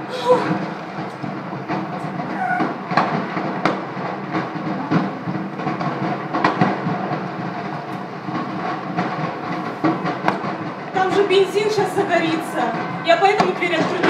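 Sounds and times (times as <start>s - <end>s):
fire crackles and pops: 0.0s - 14.0s
fire roaring: 0.0s - 14.0s.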